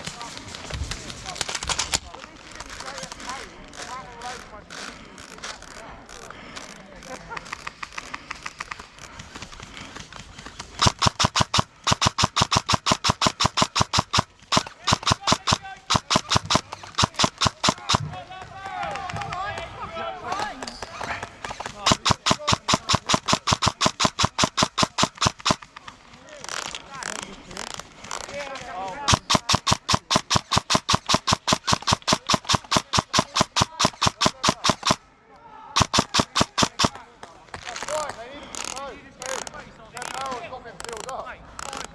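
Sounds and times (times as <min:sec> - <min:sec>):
airsoft gun rapid shots: 0:01.2 - 0:18.2, 0:20.4 - 0:25.8, 0:26.5 - 0:35.0, 0:35.8 - 0:37.1, 0:37.7 - 0:41.9.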